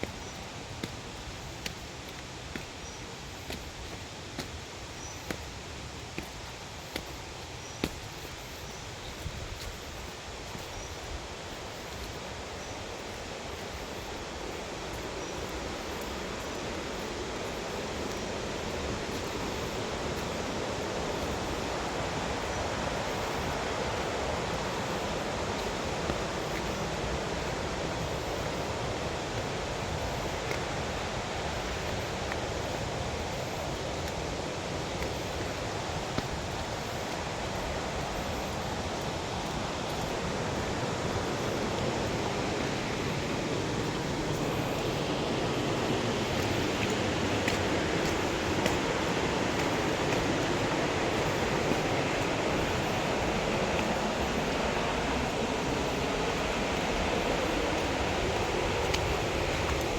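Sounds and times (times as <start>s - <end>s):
waterfall rushing: 11.5s - 59.9s.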